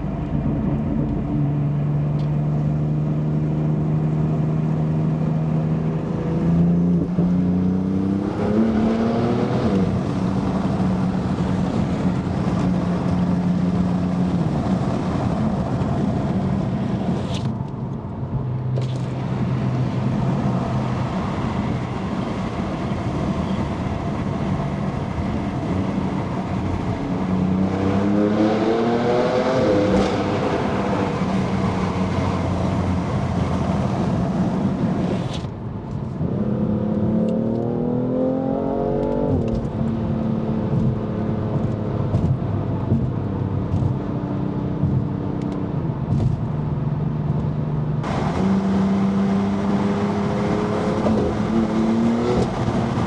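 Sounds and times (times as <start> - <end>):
car engine accelerating: 0.0 - 17.9, 18.6 - 53.0.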